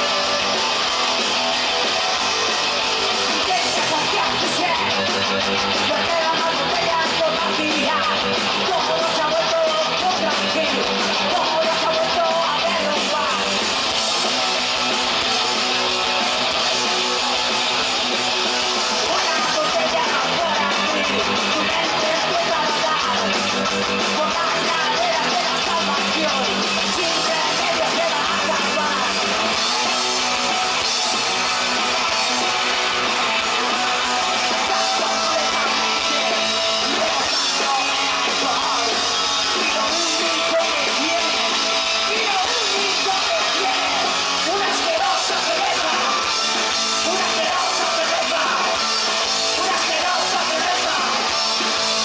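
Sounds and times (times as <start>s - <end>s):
punk rock band playing live: 0.0s - 52.0s.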